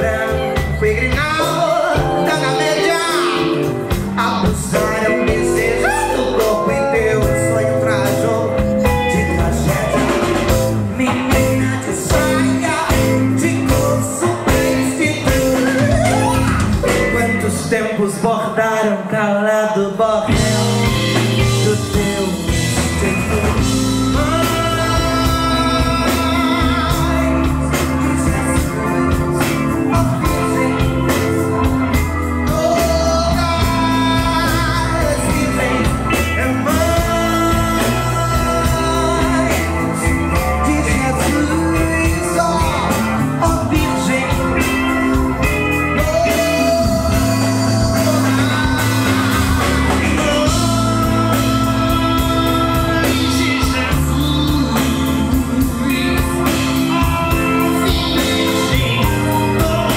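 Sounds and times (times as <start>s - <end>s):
melodic lead in held notes: 0.0s - 17.9s, 20.3s - 59.9s
live band playing: 0.0s - 59.9s.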